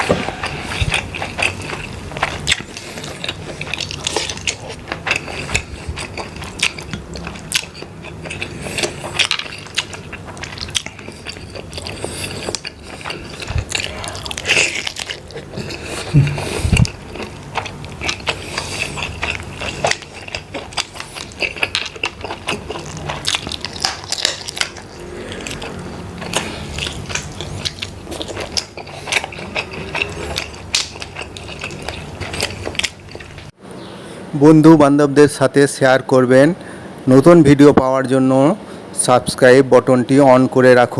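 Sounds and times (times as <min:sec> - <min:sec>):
shells cracking and chewing: 0:00.0 - 0:33.5.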